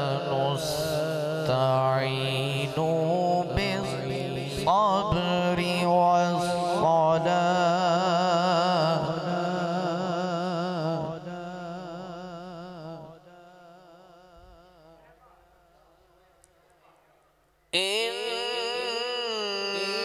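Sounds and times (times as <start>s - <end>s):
man reciting melodically into microphone: 0.0s - 16.8s, 17.7s - 20.0s.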